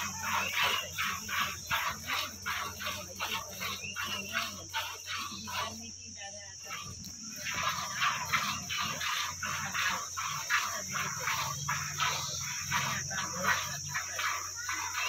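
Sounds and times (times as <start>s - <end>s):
milk squirting into steel bucket: 0.0s - 5.8s, 6.6s - 15.0s.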